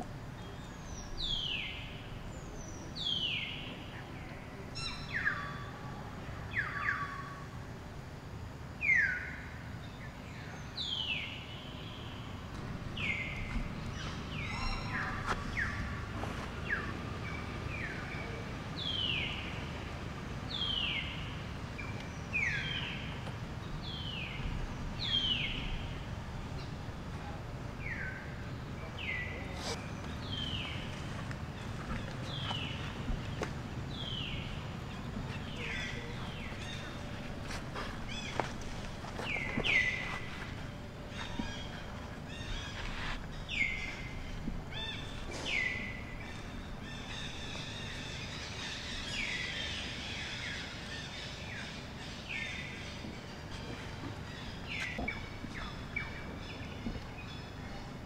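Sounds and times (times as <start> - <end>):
low outdoor background: 0.0 - 58.0.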